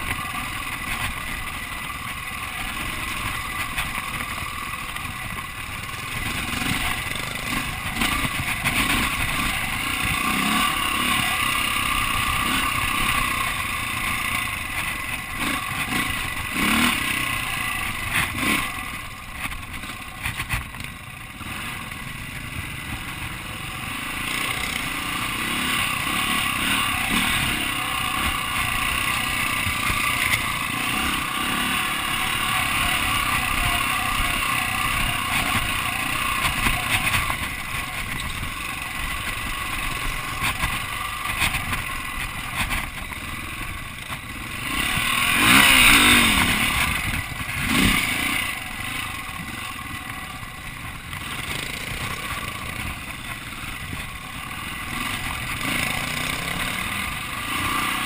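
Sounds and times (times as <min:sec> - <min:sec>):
dirt bike engine revving: 0:00.0 - 0:20.6, 0:21.2 - 0:58.0.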